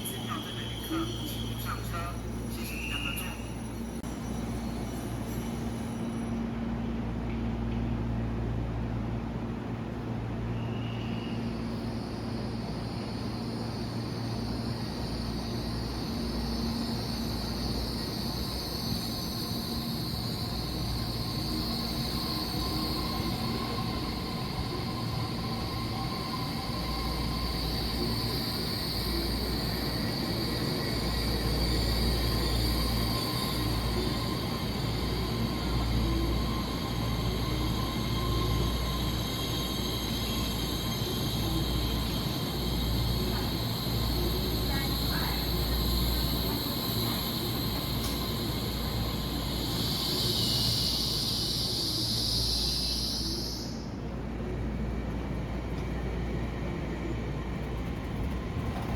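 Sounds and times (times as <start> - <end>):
train rumbling on rails: 0.0 - 58.9.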